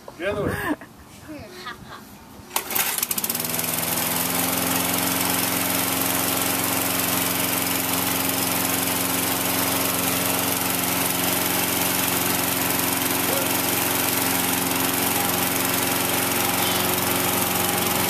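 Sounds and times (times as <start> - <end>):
lawn mower engine running: 2.5 - 18.0.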